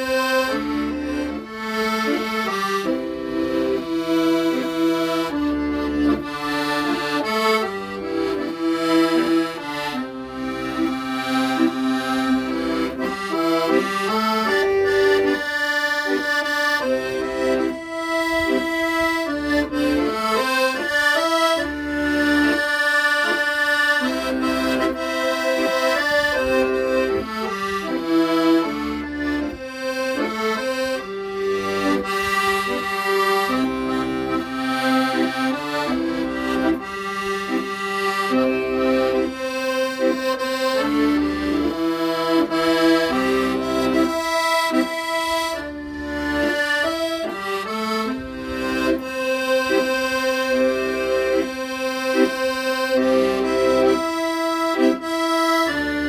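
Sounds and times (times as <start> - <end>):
accordion playing slow melody: 0.0 - 56.0.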